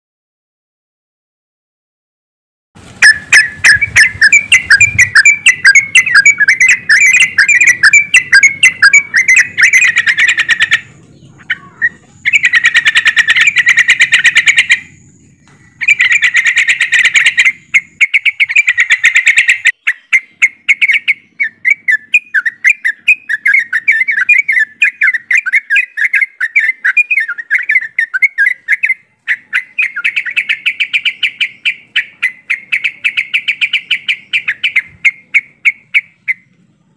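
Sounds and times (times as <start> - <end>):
birds chirping in chorus: 3.0 - 36.9.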